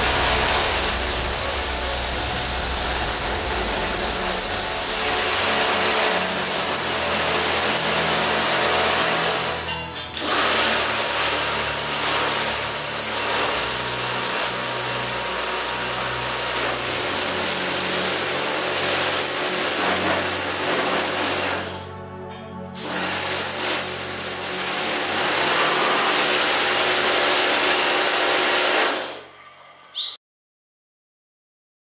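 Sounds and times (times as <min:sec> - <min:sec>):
pressure washer spraying water: 0:00.0 - 0:21.9, 0:22.8 - 0:29.3.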